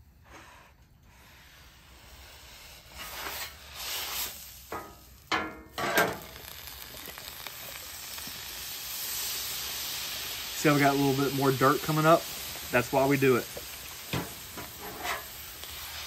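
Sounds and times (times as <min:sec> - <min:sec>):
scraper scrubbing hot griddle: 0:01.2 - 0:16.0
water sizzling on hot plate: 0:01.3 - 0:16.0.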